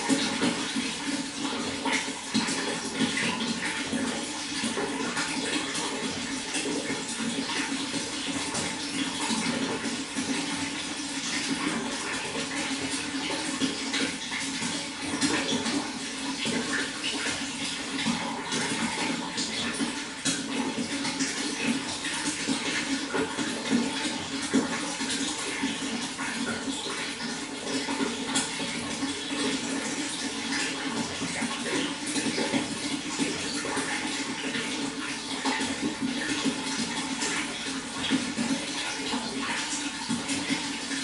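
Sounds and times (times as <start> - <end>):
running water gurgling: 0.0 - 41.0.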